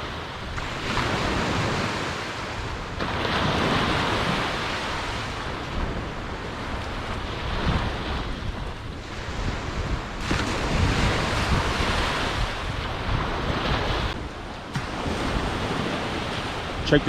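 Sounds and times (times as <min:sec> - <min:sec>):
small waves washing on sandy beach: 0:00.0 - 0:17.0
wind buffeting microphone: 0:00.0 - 0:17.0.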